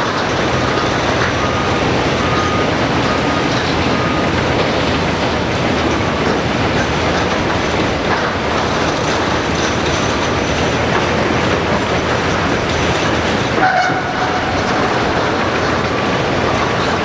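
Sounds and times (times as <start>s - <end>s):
clanking and clatter: 0.0s - 17.0s
excavator running: 0.0s - 17.0s.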